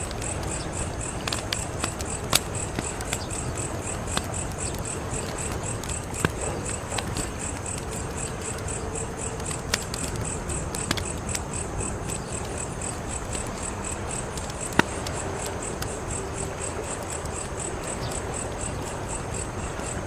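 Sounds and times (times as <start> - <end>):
crickets chirping: 0.0 - 20.0
wood fire crackling: 0.0 - 20.0.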